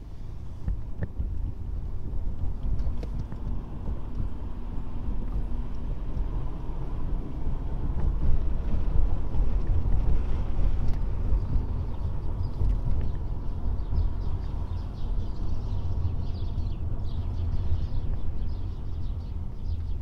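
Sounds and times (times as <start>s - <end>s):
car road and engine rumble: 0.0s - 20.0s
wind buffeting microphone: 0.3s - 20.0s.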